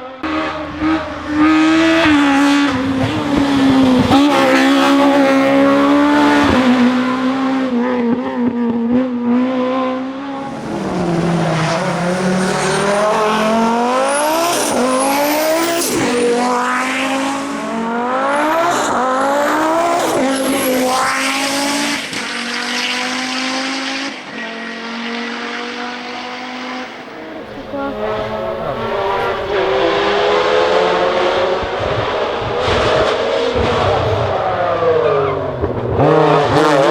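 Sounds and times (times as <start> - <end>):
race car engine accelerating: 0.0 - 36.9.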